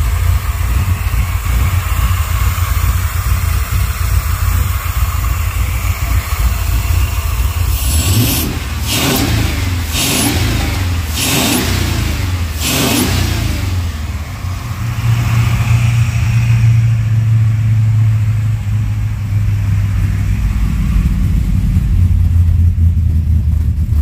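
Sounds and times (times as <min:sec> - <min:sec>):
truck engine revving then idling: 0:00.0 - 0:24.0.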